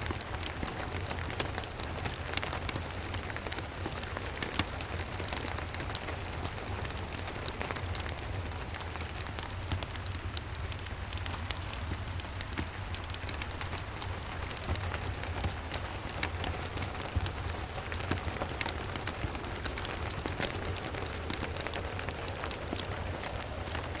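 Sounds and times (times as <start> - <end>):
fireplace crackling: 0.0 - 24.0
steady rain: 0.0 - 24.0.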